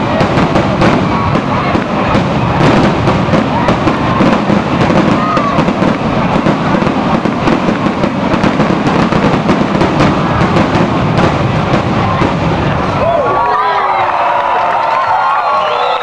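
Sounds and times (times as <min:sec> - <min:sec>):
fireworks barrage: 0:00.0 - 0:14.2.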